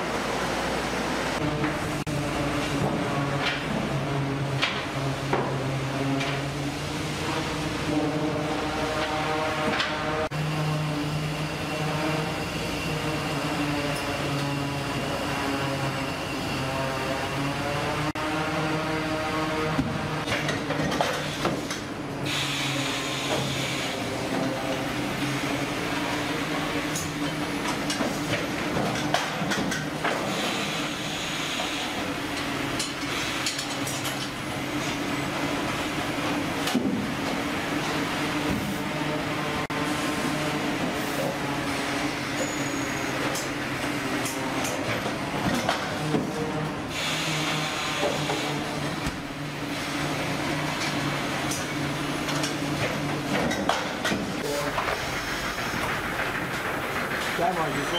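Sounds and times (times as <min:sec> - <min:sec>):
machinery humming: 0:00.0 - 0:57.9.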